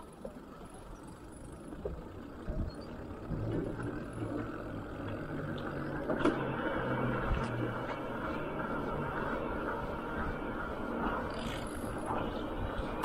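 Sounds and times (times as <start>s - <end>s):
engine humming: 0.0s - 13.0s
outdoor noise: 0.0s - 13.0s.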